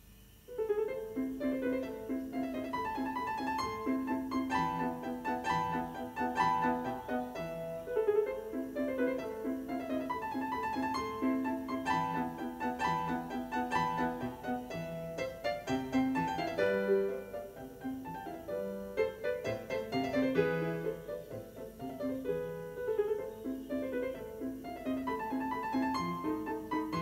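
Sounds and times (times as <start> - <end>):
piano music from cassette: 0.5 - 27.0.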